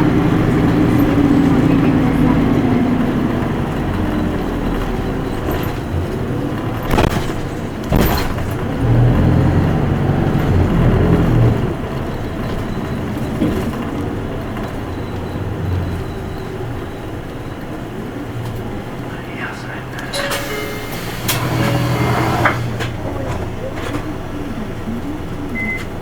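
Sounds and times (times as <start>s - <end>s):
bus diesel engine: 0.0s - 26.0s
road rumble: 0.0s - 26.0s.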